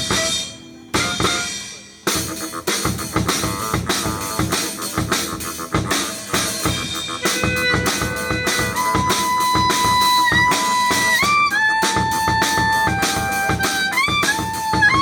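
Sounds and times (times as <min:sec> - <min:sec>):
drum kit steady beat: 0:00.0 - 0:15.0
lead instrument bending notes: 0:00.0 - 0:15.0.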